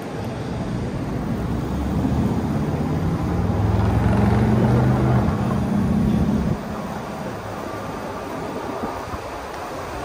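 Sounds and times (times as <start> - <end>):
vehicle engine humming: 0.0 - 9.7
wind noise on microphone: 0.0 - 10.0.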